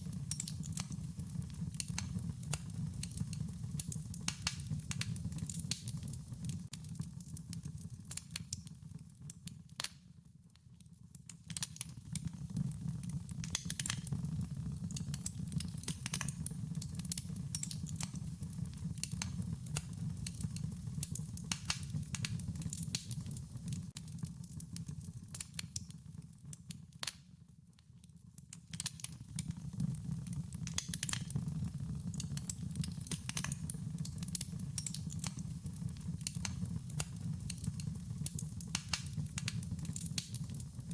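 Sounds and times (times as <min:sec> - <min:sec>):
wood fire crackling: 0:00.0 - 0:27.5, 0:28.2 - 0:40.9.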